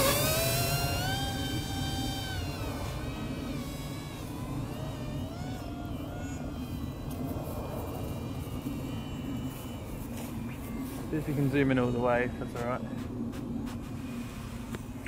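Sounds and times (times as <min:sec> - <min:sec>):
rc plane motor whining: 0:00.0 - 0:15.0
steady low rumble: 0:00.0 - 0:15.0.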